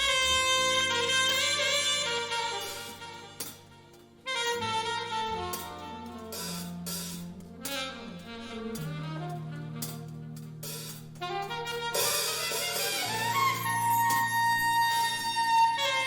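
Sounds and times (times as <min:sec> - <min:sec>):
bass: 0:00.0 - 0:16.0
drums: 0:00.0 - 0:16.0
jazz saxophone: 0:00.0 - 0:16.0.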